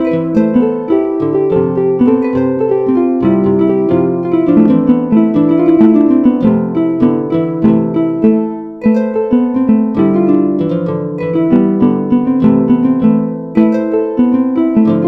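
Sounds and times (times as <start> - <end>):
harp music: 0.0 - 15.0.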